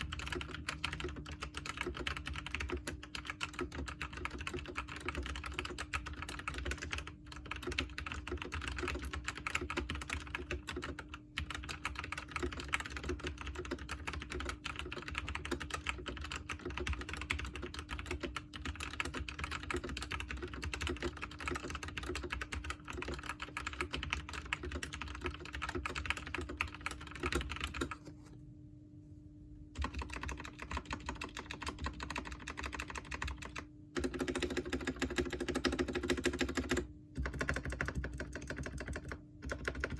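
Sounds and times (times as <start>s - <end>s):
fast mechanical keyboard typing: 0.0s - 28.0s, 29.8s - 39.9s.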